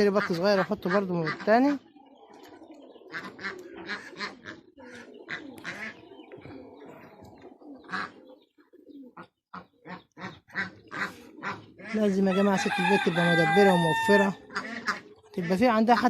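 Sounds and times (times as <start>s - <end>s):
ducks calling: 0.0s - 16.0s.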